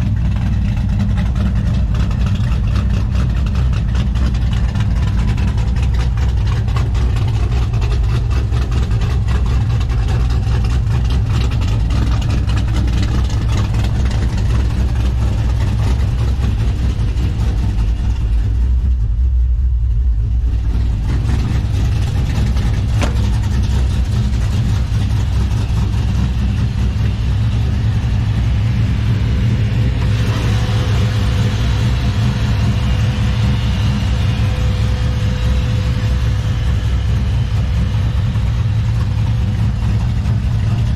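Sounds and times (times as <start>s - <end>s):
vee eight engine rumbling: 0.0s - 40.9s.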